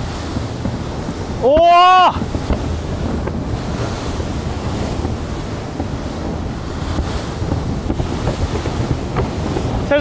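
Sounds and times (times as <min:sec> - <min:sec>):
water rushing: 0:00.0 - 0:10.0
wind buffeting microphone: 0:00.0 - 0:10.0.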